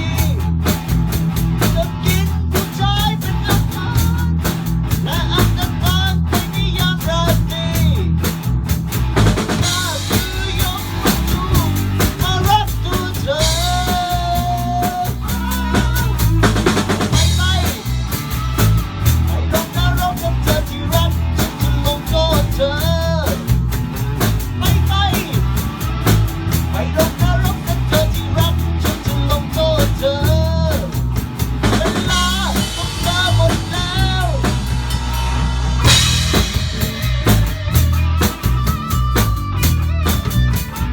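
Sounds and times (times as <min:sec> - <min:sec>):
drum kit beat: 0:00.0 - 0:40.9
rock band playing live: 0:00.0 - 0:40.9.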